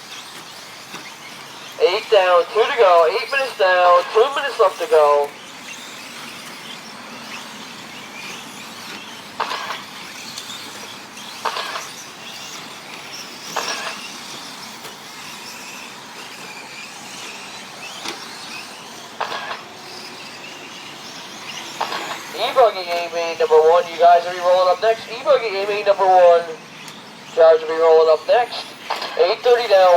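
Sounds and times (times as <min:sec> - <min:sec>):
rc trucks racing: 0:00.0 - 0:29.9.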